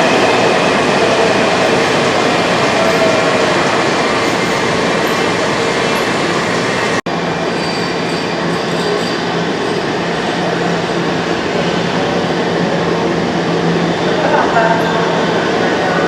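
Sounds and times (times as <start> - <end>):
subway train rail noise: 0.0 - 16.0.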